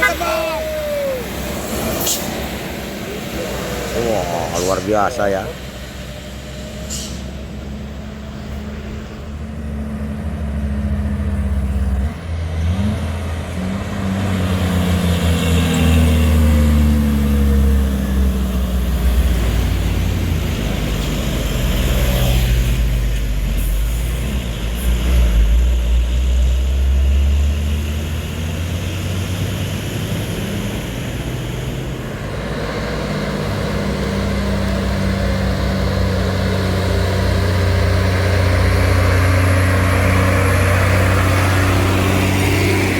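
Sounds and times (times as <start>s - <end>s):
heavy truck engine revving: 0.0s - 42.9s.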